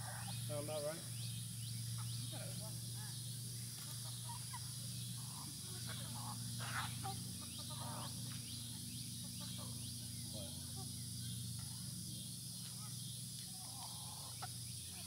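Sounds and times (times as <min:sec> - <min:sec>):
chickens clucking: 0:00.0 - 0:15.0
steady high-pitched hiss: 0:00.0 - 0:15.0.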